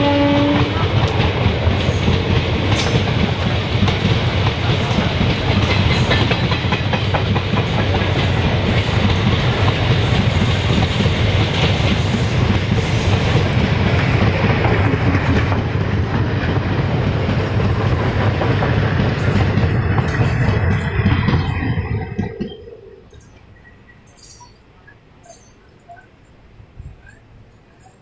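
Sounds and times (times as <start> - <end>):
rail joints clickety-clack: 0.0 - 28.0
train wheels rumbling on rails: 0.0 - 28.0.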